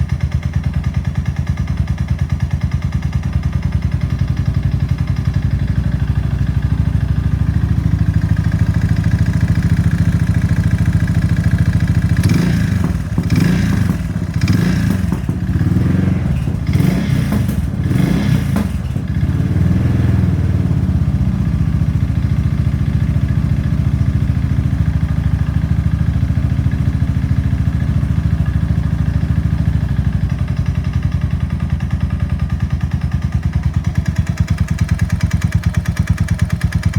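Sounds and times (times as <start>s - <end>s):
knocking motorcycle engine: 0.0s - 36.9s.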